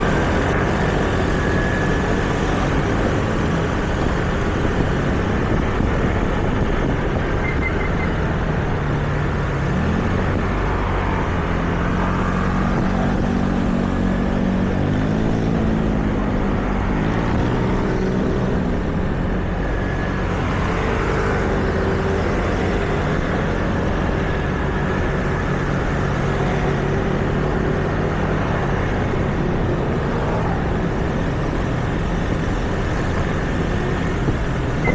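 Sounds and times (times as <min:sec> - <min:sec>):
passing vehicles: 0:00.0 - 0:34.9.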